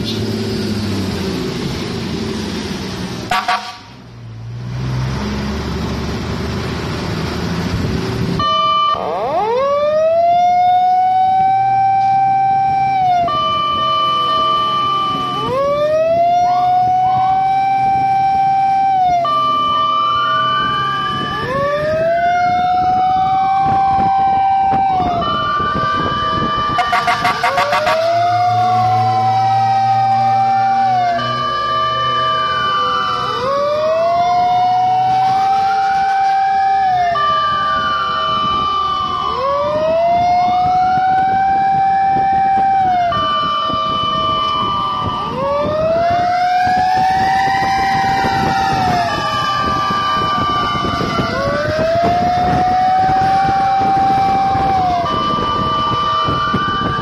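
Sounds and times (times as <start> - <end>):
engine and road noise: 0.0 - 57.0
fire truck siren wailing: 0.0 - 57.0.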